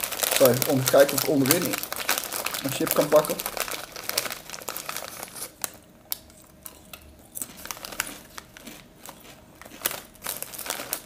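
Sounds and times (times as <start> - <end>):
crisp packet crinkling: 0.0 - 11.0.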